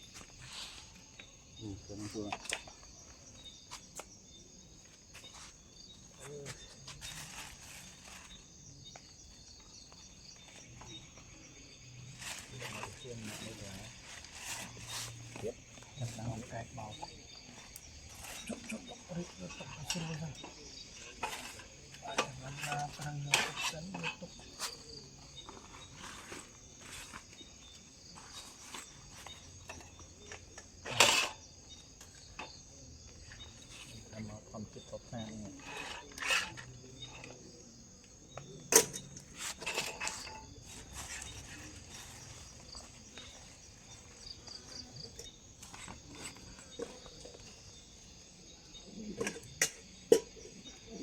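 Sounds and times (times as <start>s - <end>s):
insects trilling: 0.0s - 51.0s.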